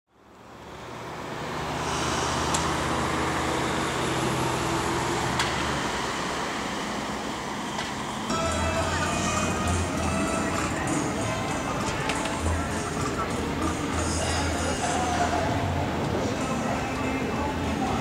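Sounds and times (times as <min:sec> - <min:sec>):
road traffic passing: 0:00.1 - 0:18.0.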